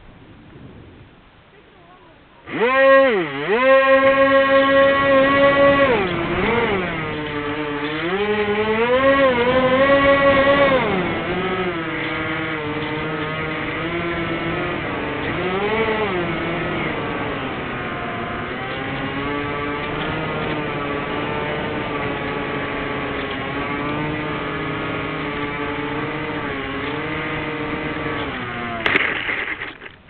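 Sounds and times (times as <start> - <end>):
model plane motors buzzing: 2.4 - 30.0.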